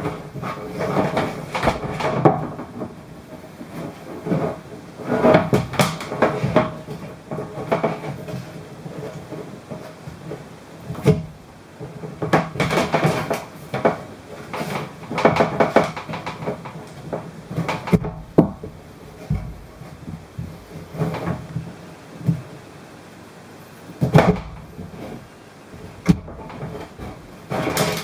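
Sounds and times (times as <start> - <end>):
knocks rubs and creaks: 0.0 - 22.6, 24.0 - 28.0.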